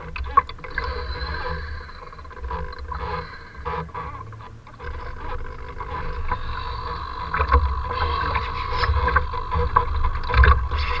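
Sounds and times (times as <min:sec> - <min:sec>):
choppy water splashing: 0:00.0 - 0:11.0.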